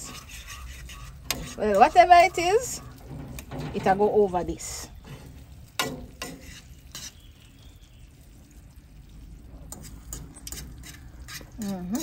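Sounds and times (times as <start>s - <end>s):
faint sizzle: 0.0s - 12.0s
spoon stirring and scraping pan: 0.0s - 12.0s.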